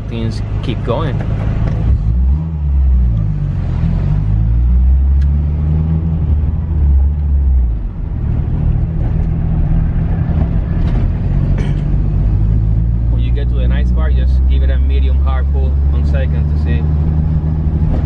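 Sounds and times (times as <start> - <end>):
car engine heard from inside: 0.0 - 18.0.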